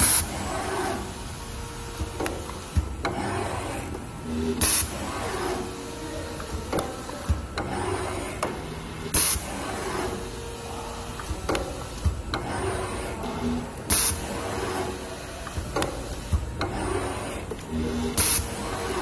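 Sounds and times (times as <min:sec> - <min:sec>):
pneumatic air hisses: 0:00.0 - 0:01.3, 0:02.0 - 0:10.3, 0:11.3 - 0:19.0.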